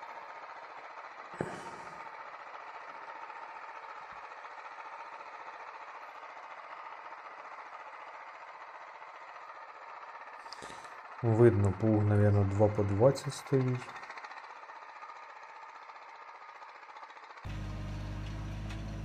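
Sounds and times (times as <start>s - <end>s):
tractor engine under load: 0.0s - 19.0s.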